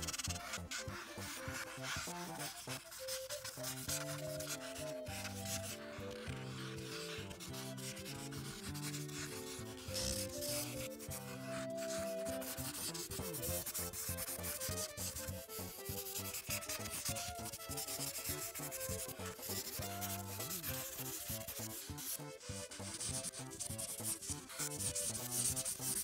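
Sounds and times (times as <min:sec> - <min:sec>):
coloring strokes scratching paper: 0:00.0 - 0:26.0
soft background music: 0:00.0 - 0:26.0.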